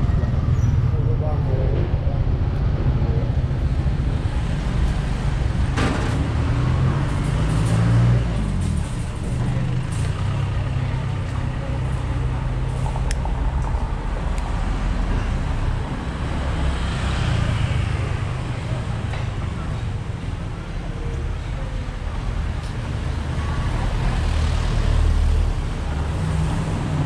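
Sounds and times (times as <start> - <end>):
traffic engine rumble: 0.0 - 27.0.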